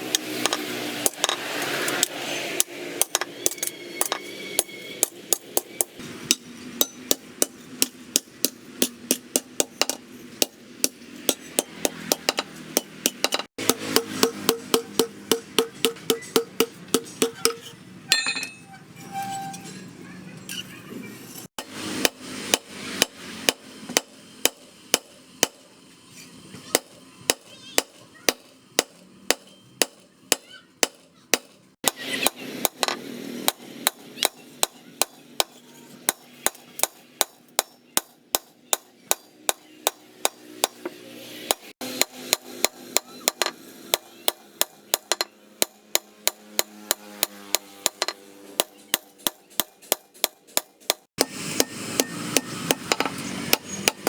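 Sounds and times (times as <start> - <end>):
hammer striking steel on anvil: 0.0 - 19.6, 21.3 - 25.7, 26.7 - 54.0.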